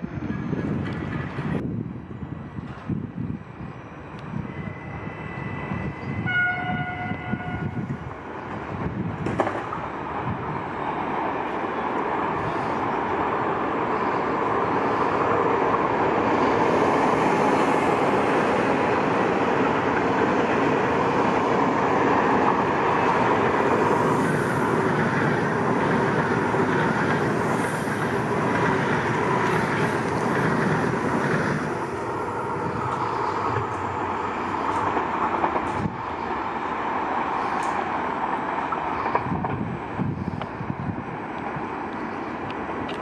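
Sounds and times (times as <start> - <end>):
electric train passing: 0.0 - 43.0.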